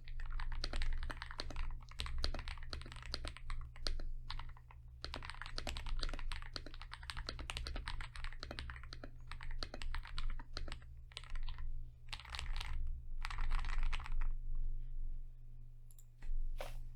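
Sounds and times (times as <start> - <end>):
mechanical keyboard typing: 0.0 - 14.3.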